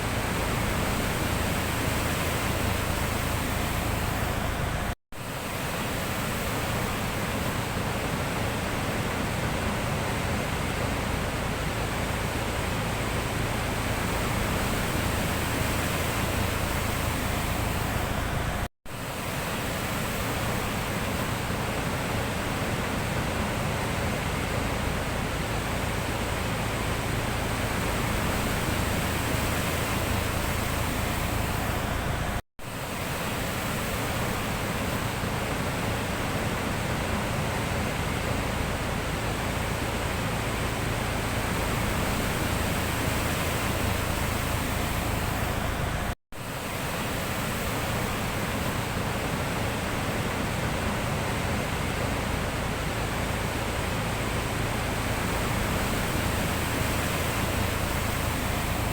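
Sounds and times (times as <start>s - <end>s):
waves washing on shore: 0.0s - 58.9s.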